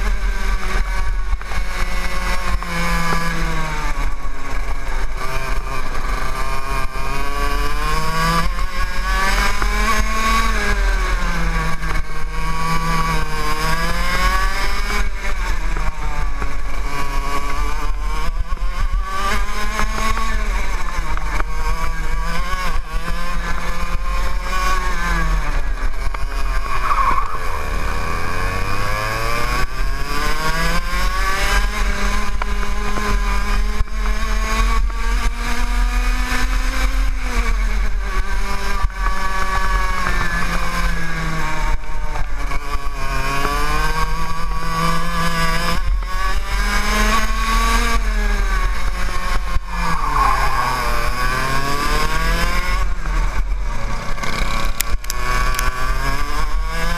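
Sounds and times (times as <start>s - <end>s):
kart engine revving whine: 0.0s - 56.9s.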